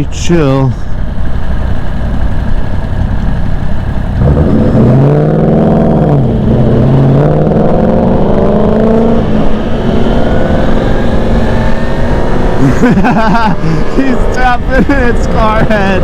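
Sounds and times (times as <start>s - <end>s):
low wind rumble: 0.0s - 16.0s
vehicle engine at low speed: 0.0s - 16.0s.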